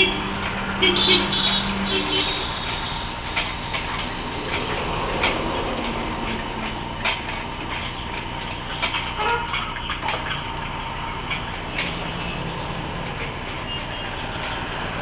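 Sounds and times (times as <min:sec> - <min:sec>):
roller conveyor hissing: 0:00.0 - 0:15.0.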